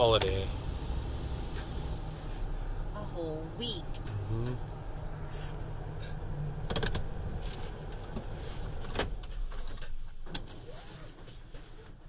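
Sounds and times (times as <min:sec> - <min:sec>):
car wash low rumble: 0:00.0 - 0:12.0.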